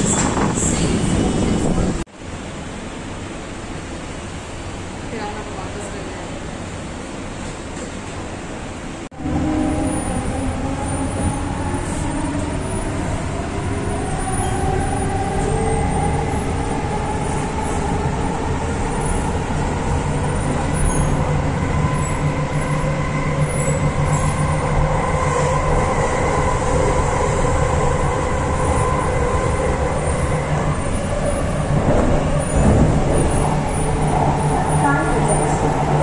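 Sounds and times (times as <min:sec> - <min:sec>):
train rolling rumble: 0:00.0 - 0:36.0.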